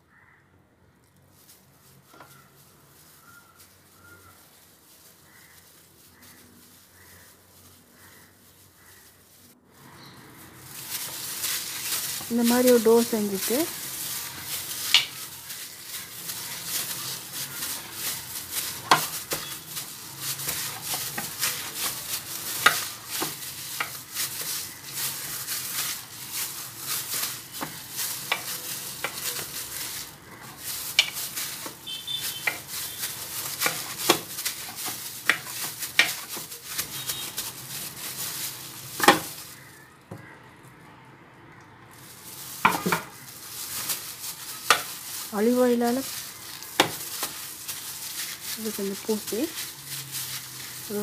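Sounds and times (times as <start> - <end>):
plastic glove crinkling: 1.0 - 40.3, 41.9 - 51.0.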